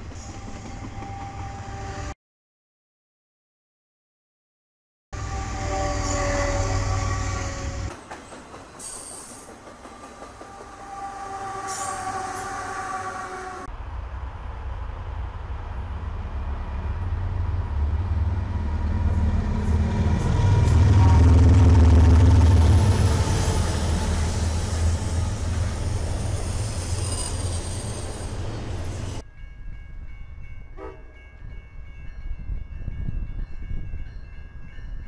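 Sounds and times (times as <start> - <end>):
distant passenger train: 0.0 - 2.2, 5.2 - 35.0
diesel locomotives rumbling past: 5.2 - 35.0.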